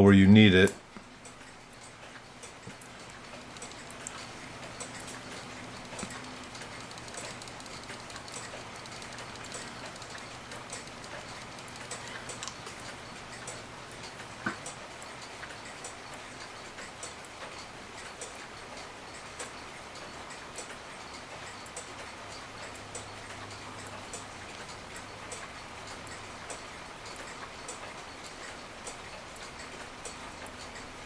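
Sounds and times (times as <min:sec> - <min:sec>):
clock ticking: 0:00.0 - 0:31.0.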